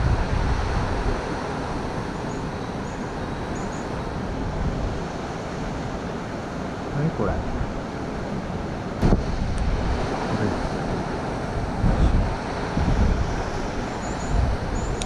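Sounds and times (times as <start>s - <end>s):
stream water rushing: 0.0s - 15.0s
wind buffeting microphone: 0.0s - 15.0s.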